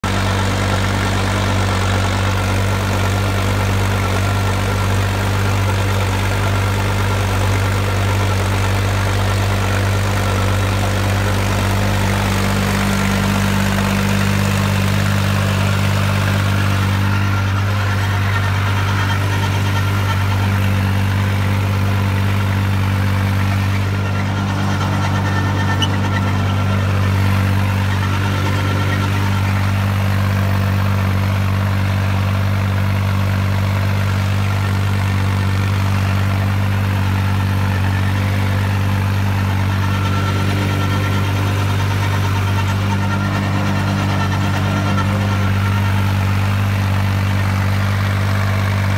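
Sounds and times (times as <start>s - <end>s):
tractor diesel engine droning: 0.0s - 48.9s.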